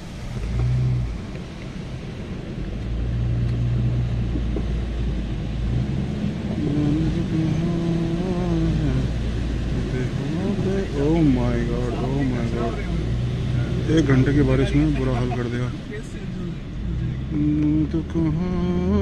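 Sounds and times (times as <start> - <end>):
car engine and tyres in water: 0.0 - 19.0.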